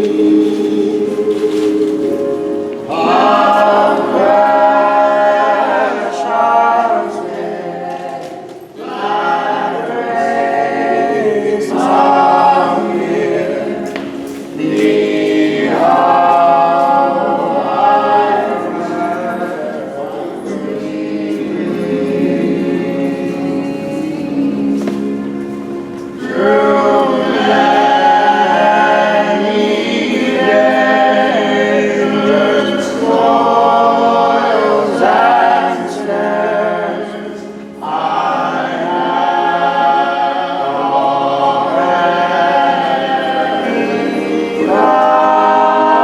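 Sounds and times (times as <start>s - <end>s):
choir singing: 0.0s - 46.0s.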